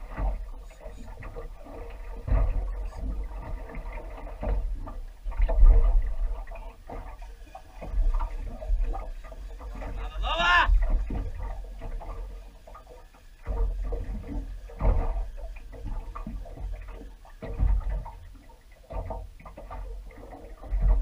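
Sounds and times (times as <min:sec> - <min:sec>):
water lapping against boat hull: 0:00.0 - 0:21.0.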